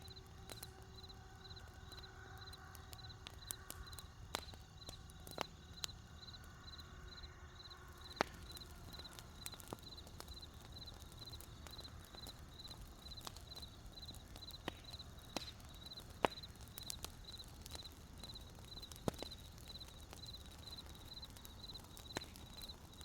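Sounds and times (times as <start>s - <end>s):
campfire crackling: 0.0s - 23.0s
crickets chirping: 0.9s - 23.0s.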